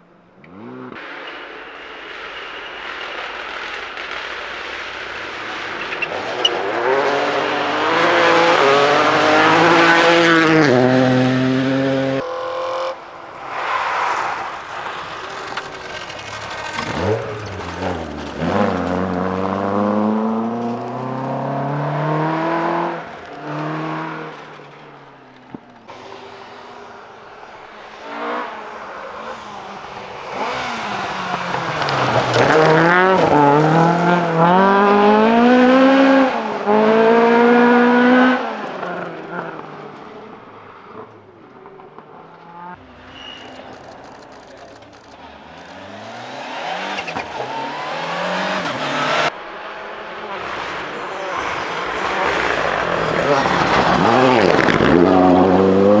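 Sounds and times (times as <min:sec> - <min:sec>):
rally car passing with gear changes: 0:00.0 - 0:56.0
car engine approaching: 0:04.8 - 0:56.0
rally car engine accelerating: 0:05.5 - 0:13.2, 0:13.8 - 0:56.0.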